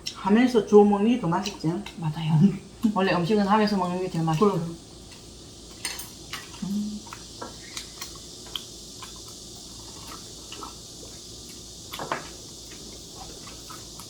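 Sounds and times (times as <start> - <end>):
chewing sticky rice cake: 0.0 - 14.0.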